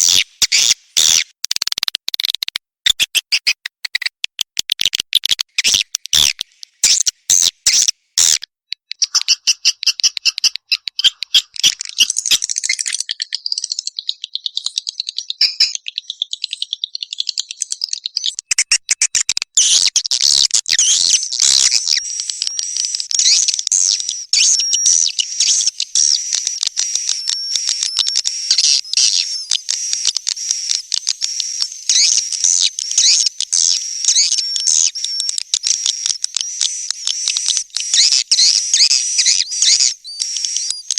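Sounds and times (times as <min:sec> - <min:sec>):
swiftlets twittering and chirping: 0:00.0 - 0:08.4, 0:09.0 - 0:40.9
sharp clicks: 0:00.0 - 0:13.2, 0:18.2 - 0:40.9.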